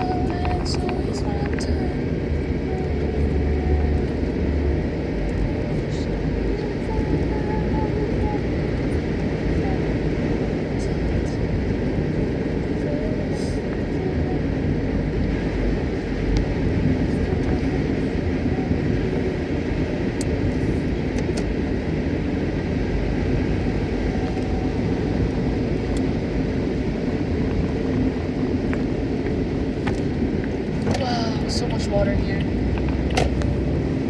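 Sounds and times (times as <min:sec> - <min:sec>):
car cabin road noise: 0:00.0 - 0:34.0.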